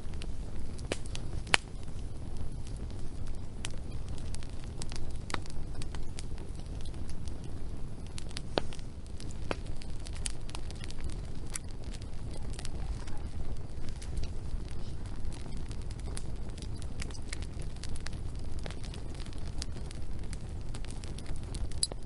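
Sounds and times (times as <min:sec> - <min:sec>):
low rumble of flame: 0:00.0 - 0:22.0
wood fire crackling: 0:00.0 - 0:22.0.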